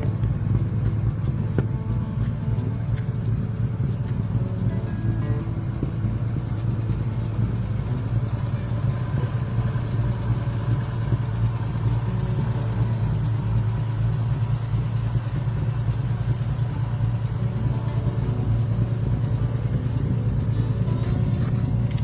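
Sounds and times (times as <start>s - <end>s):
car engine running steadily: 0.0s - 22.0s.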